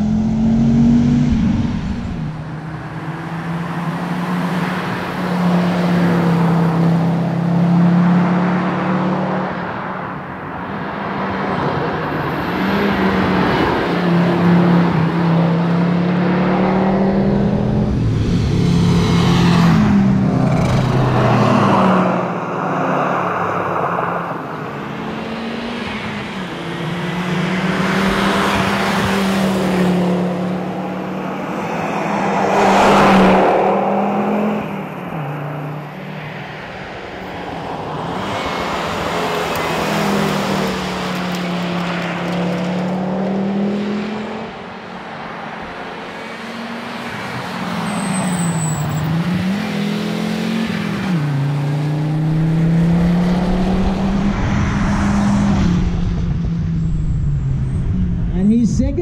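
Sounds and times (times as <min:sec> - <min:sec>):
rally car engine passing: 0:00.0 - 0:58.8.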